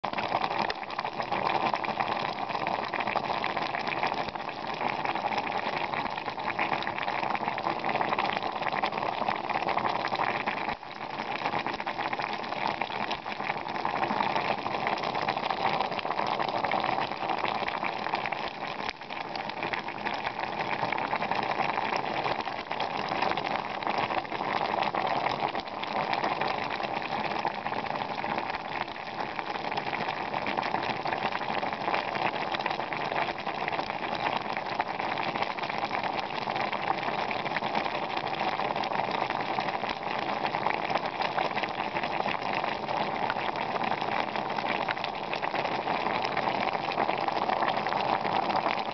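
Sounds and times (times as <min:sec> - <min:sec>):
saucepan boiling with dense bubbling: 0:00.0 - 0:48.9.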